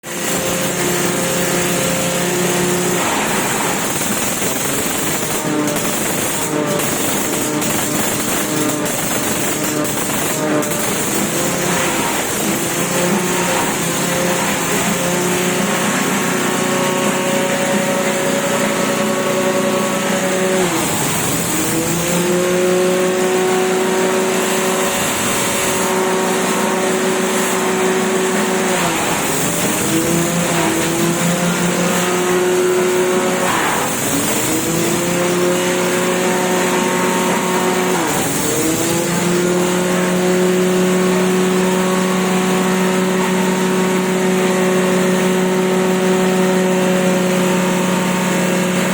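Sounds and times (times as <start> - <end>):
grass chopper engine running: 0.0 - 48.9.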